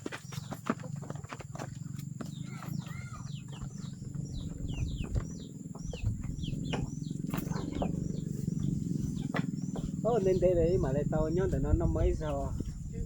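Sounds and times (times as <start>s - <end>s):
small birds chirping: 0.0s - 13.0s
steady low hum: 0.2s - 13.0s.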